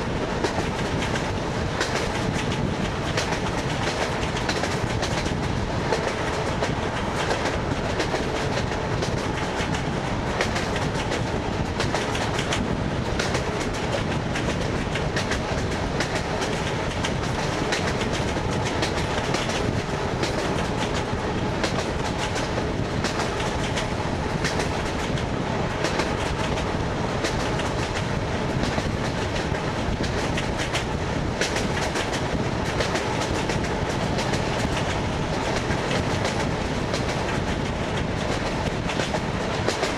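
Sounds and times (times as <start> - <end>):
rumble of moving carriage: 0.0 - 39.9
train wheels clacking over rail joints: 0.0 - 39.9.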